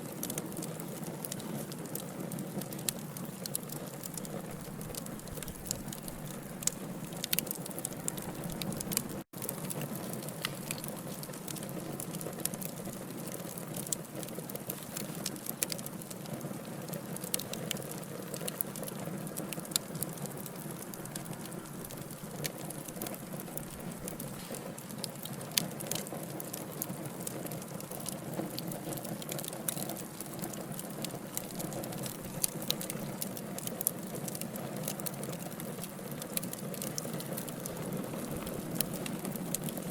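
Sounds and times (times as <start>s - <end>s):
burning logs crackling: 0.0s - 39.9s.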